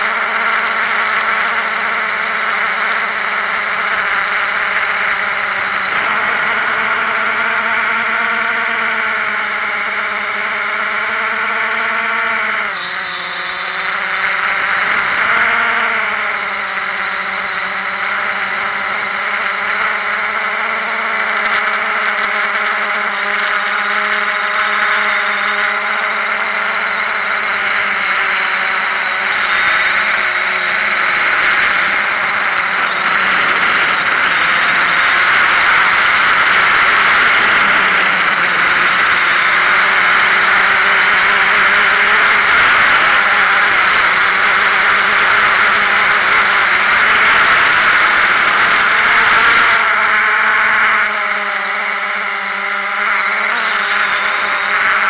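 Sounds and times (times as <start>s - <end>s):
drone motors buzzing whine: 0.0s - 55.0s.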